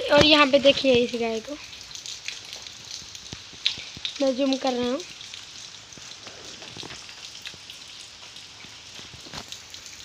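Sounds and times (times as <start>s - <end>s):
rain hissing on wet ground: 0.0s - 10.0s
water drip taps: 0.0s - 10.0s.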